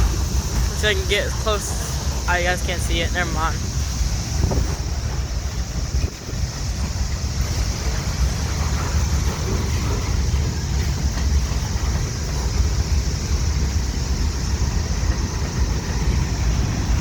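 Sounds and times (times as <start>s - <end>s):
train cars rumbling on rails: 0.0s - 17.0s
wind buffeting microphone: 0.0s - 17.0s.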